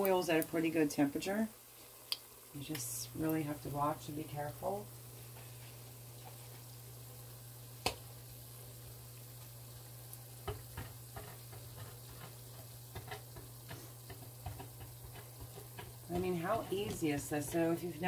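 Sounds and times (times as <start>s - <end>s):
oil sizzling and popping: 0.0s - 18.0s.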